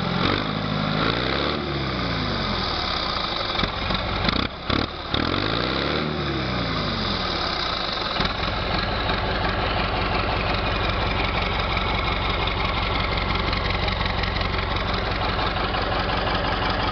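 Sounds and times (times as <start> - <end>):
tractor diesel engine idling: 1.7 - 5.4, 6.4 - 16.9.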